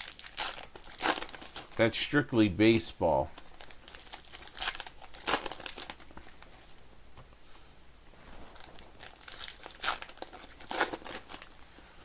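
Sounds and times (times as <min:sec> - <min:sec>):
card pack wrappers crinkling: 0:00.0 - 0:06.5, 0:08.5 - 0:11.6.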